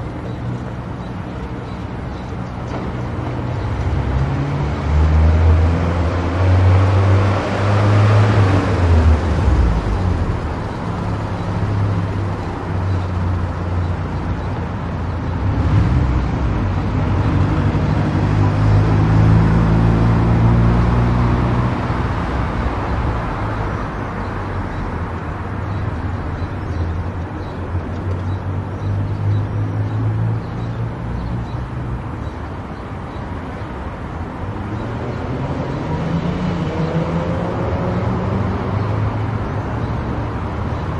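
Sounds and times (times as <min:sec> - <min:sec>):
tyre road noise: 0:00.0 - 0:40.9.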